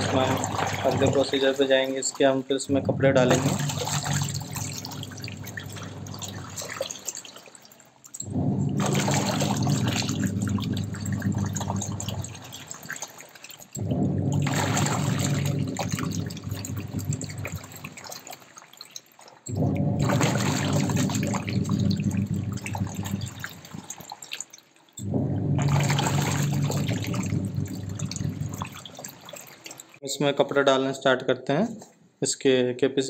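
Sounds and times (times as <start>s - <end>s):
washing machine motor humming: 0.0s - 18.3s, 19.5s - 24.3s, 25.0s - 30.0s
water churning and sloshing: 0.0s - 30.0s.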